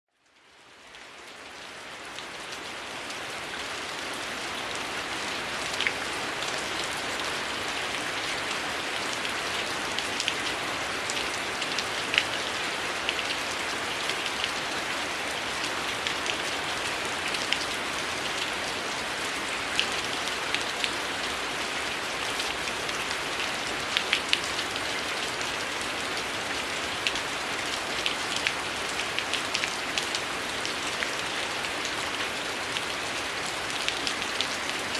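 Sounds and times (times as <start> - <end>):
heavy rain falling: 0.6 - 34.9.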